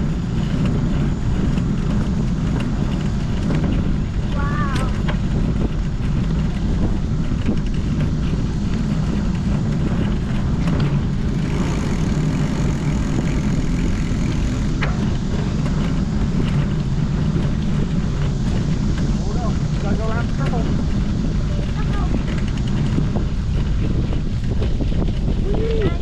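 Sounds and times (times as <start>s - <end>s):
bicycle tyre noise on road: 0.0s - 26.0s
wind rumble on microphone: 0.0s - 26.0s.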